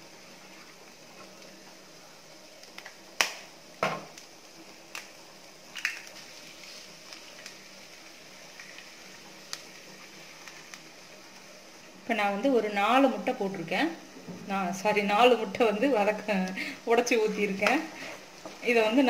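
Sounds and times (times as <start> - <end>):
onions sizzling in a pan: 0.0 - 19.0.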